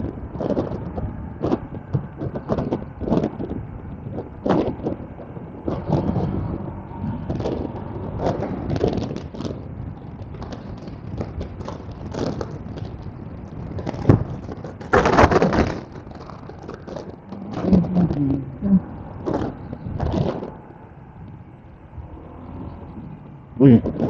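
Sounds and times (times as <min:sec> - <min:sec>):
motorcycle running: 0:00.0 - 0:24.0
rush of noise: 0:00.0 - 0:24.0
wind buffeting microphone: 0:00.0 - 0:24.0.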